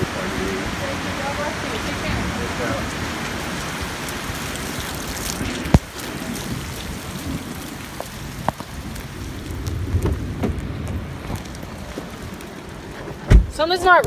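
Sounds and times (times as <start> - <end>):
low bumps: 0.0 - 14.0
steady rain falling: 0.0 - 14.0.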